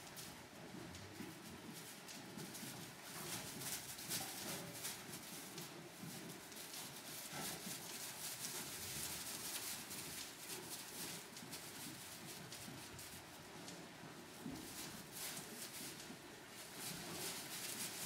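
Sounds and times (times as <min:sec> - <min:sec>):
hooves rustling in straw: 0:00.0 - 0:18.0.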